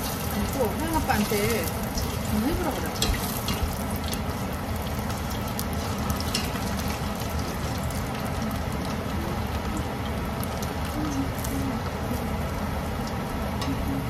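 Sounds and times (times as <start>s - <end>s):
oil crackles: 0.0s - 13.4s
deep-frying sizzle: 0.0s - 14.0s.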